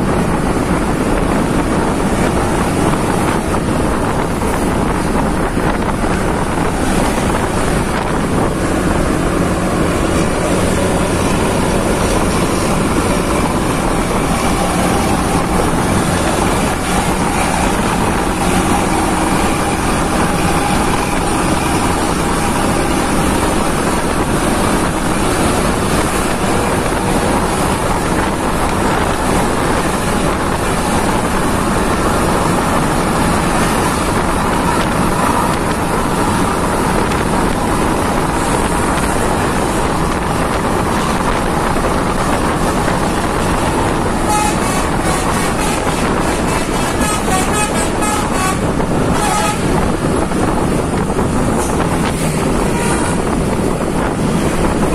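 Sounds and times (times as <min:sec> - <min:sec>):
bus engine: 0:00.0 - 0:54.9
road noise: 0:00.0 - 0:54.9
wind on microphone: 0:00.0 - 0:54.9.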